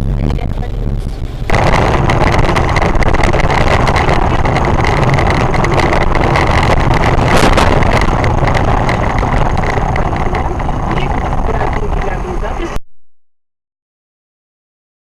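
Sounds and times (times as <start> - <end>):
moving vehicle noise: 0.0 - 12.8
steady high whine: 0.0 - 12.8
wind buffeting microphone: 0.0 - 12.8.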